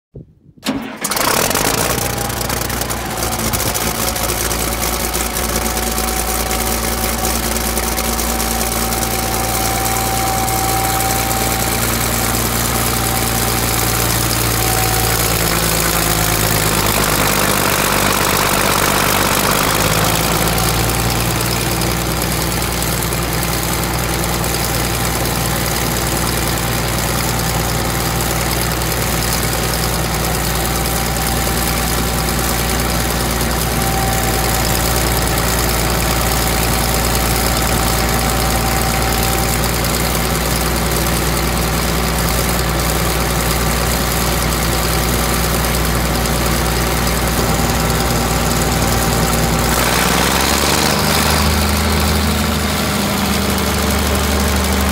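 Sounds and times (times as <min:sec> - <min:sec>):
diesel engine idling: 0:00.6 - 0:54.9.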